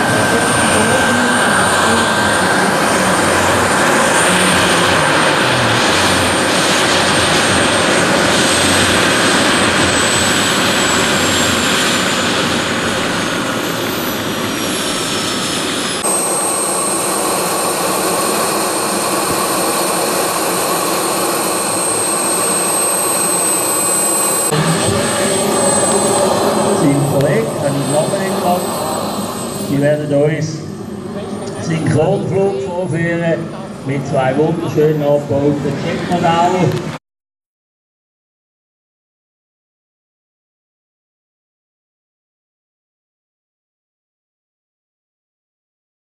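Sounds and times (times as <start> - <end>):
model turbine engine whine: 0.0 - 37.0.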